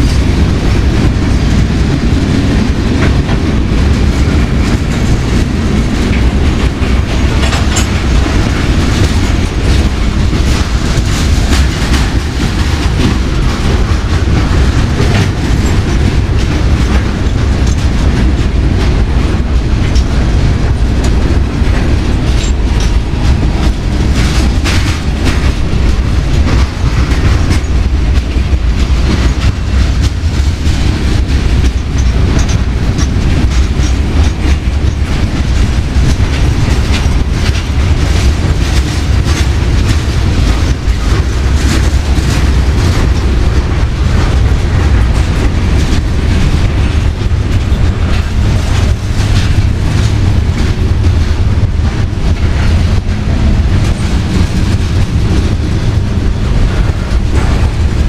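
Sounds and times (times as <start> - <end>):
freight train rumbling past: 0.0 - 58.0
wheels clacking on rails: 0.0 - 58.0.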